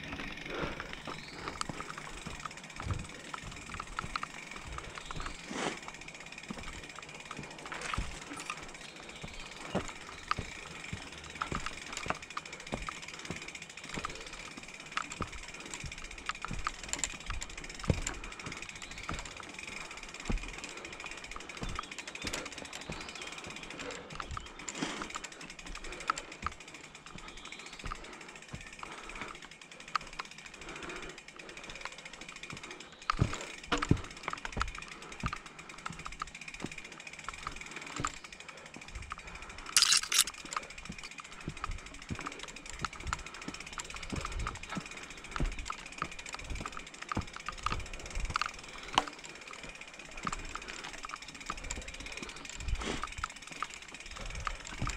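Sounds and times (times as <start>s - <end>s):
bike chain rattling and knocking: 0.0s - 54.9s
bike freehub ticking: 0.0s - 54.9s.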